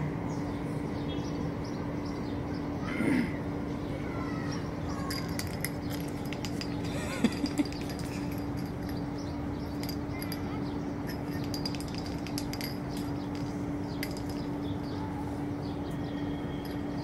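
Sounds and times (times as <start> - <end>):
steady low hum: 0.0 - 17.0
small birds chirping: 0.3 - 17.0.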